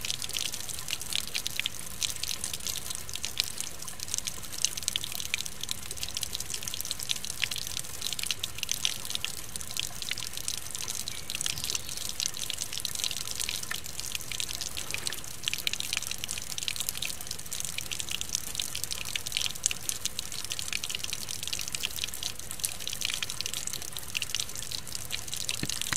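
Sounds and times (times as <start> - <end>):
rain patter: 0.0 - 25.9.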